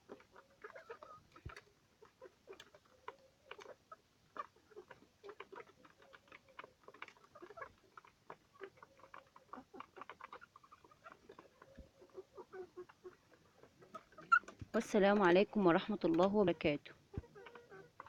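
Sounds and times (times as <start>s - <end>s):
chickens clucking softly: 0.0s - 18.0s
chickens pecking taps: 0.0s - 18.0s.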